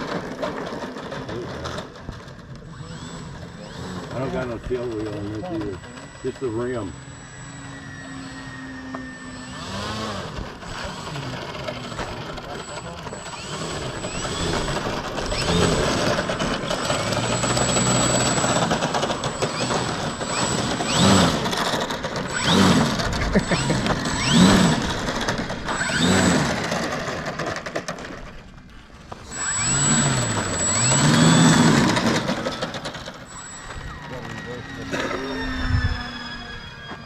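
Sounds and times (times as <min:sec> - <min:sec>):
model airplane motor whining: 0:00.0 - 0:37.0.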